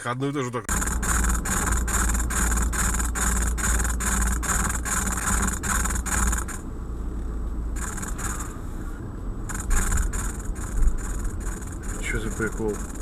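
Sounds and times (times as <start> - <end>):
rhythmic rasping from car speakers: 0.3 - 13.0.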